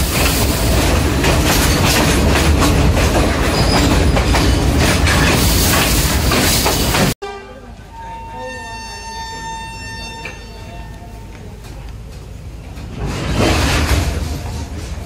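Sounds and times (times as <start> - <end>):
wheels rumbling on rails: 0.0 - 7.2, 8.4 - 15.0.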